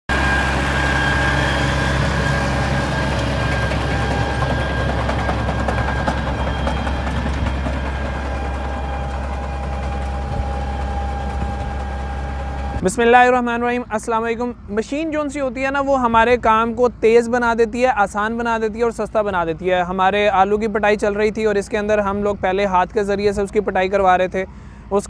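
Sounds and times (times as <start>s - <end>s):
tractor diesel engine running: 0.1s - 25.0s.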